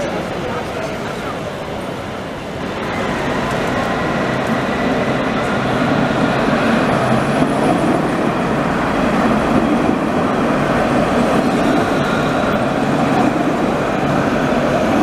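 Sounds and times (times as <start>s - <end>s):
tram wheels running on rails: 0.0s - 15.0s.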